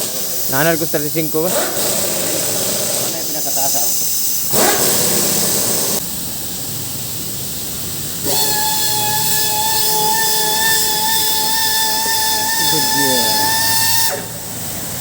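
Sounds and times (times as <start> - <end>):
compressed air hissing from hose: 0.0 - 15.0
steady machine whine: 0.0 - 15.0.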